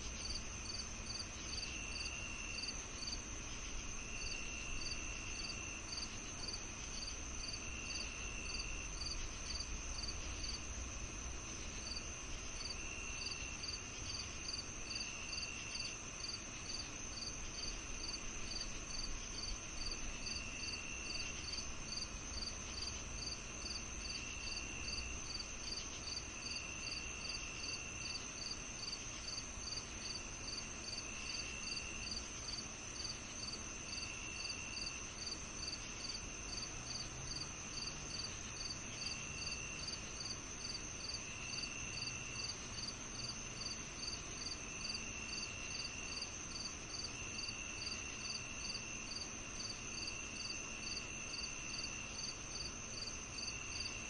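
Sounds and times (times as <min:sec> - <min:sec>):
high insect trill: 0:00.0 - 0:54.0
insect chirping: 0:00.0 - 0:54.0.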